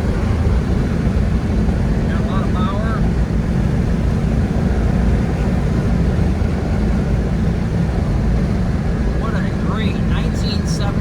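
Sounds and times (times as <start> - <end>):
car engine rumble: 0.0 - 11.0
tyre road noise: 0.0 - 11.0.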